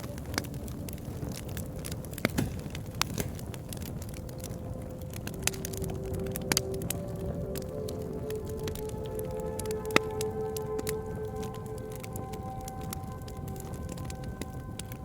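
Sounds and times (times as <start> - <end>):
bonfire crackling: 0.0 - 15.0.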